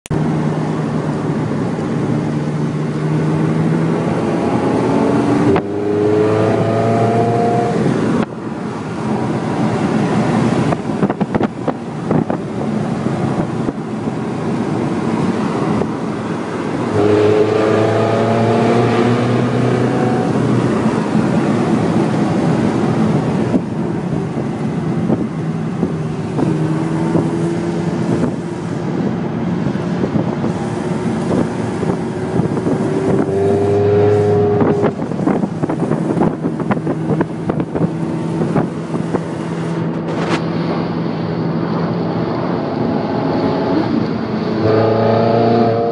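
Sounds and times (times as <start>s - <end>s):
wind and road noise: 0.0s - 45.9s
car engine accelerating: 0.1s - 45.9s.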